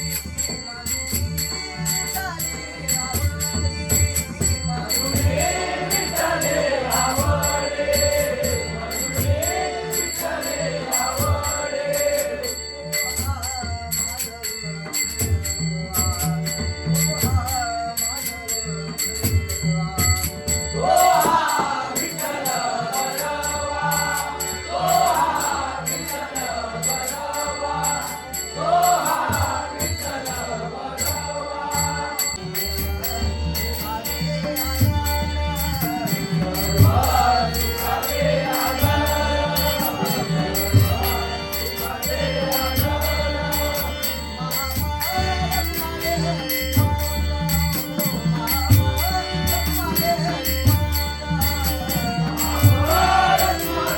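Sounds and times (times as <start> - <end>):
man singing devotional song: 0.0 - 53.9
small hand cymbals: 0.0 - 53.9.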